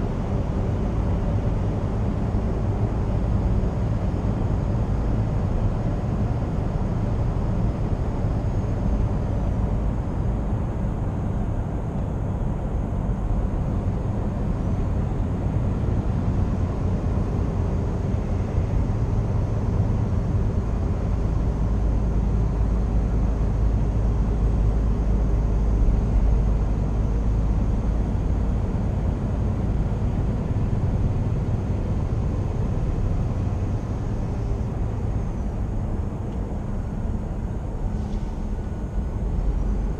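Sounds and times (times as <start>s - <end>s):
road and tyre noise: 0.0s - 39.9s
truck diesel engine drone: 0.0s - 39.9s.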